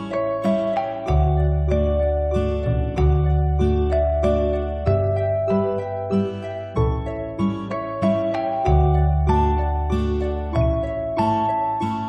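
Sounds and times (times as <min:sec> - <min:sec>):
instrumental melody: 0:00.0 - 0:12.0
low held bass: 0:00.0 - 0:12.0.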